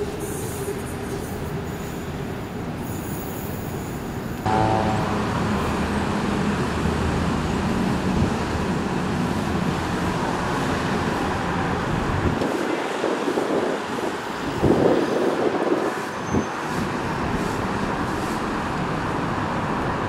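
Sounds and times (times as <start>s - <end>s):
city road traffic rumble: 0.0s - 20.0s.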